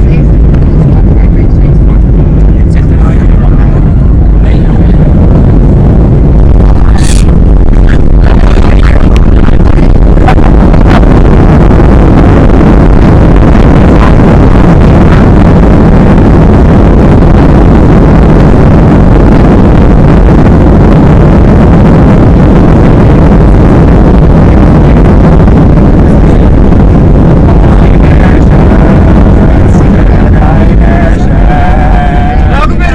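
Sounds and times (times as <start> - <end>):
jet engines roaring: 0.0 - 32.9
wheels rumbling on runway: 0.0 - 32.9.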